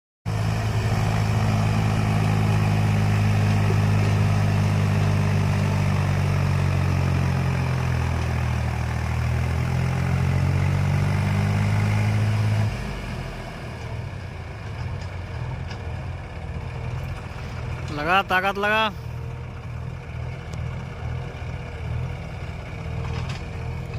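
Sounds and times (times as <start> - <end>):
heavy diesel engine under load: 0.3 - 23.9.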